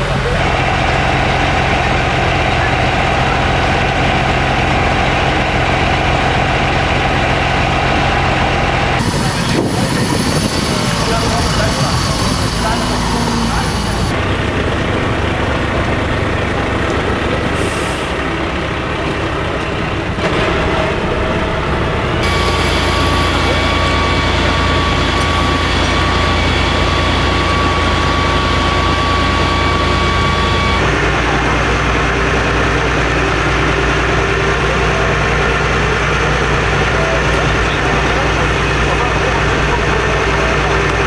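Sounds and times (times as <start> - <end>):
diesel engine running: 0.0 - 41.0
high whine: 0.0 - 41.0.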